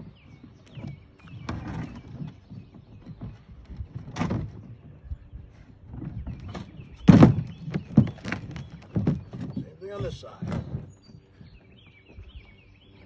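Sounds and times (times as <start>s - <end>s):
kayak hull knocks and clacks: 0.0s - 12.6s.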